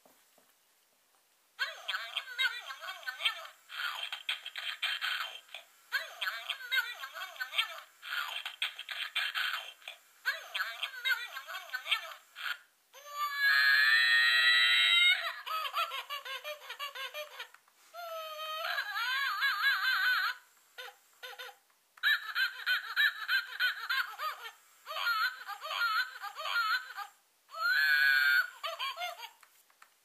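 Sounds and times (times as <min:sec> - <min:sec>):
toy baby voice giggling: 0:01.6 - 0:29.4.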